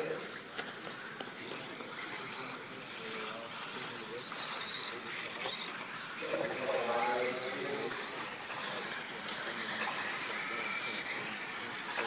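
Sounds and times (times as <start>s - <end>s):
electric rc cars on dirt: 0.0s - 12.0s
wavering motor whine: 0.0s - 12.0s.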